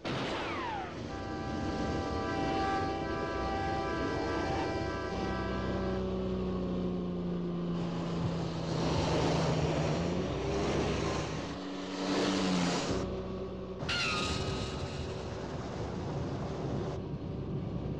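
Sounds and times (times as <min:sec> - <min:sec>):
car engine droning: 0:00.0 - 0:17.9
road and wind noise: 0:00.0 - 0:17.9.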